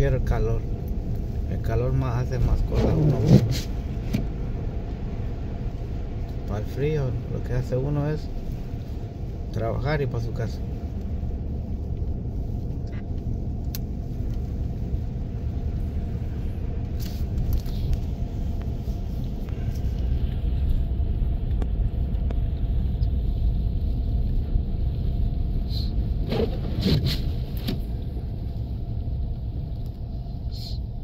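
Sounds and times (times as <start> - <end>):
car driving on snowy road: 0.0 - 31.0.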